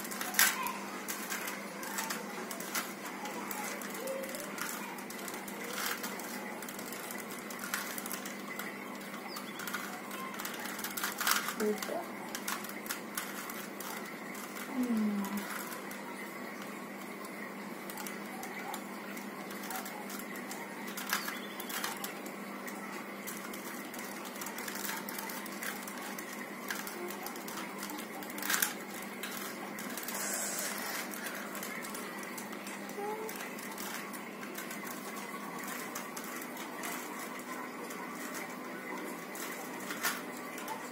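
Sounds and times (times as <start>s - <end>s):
background hum: 0.0s - 40.9s.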